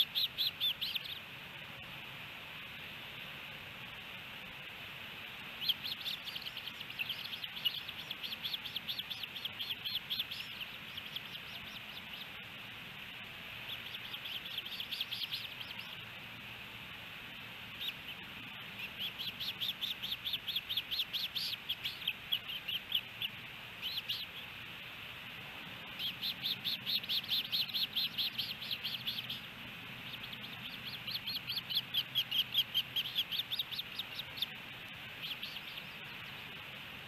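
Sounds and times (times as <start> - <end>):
ospreys chirping: 0.0 - 1.4, 4.3 - 37.0
background hiss: 0.0 - 37.0.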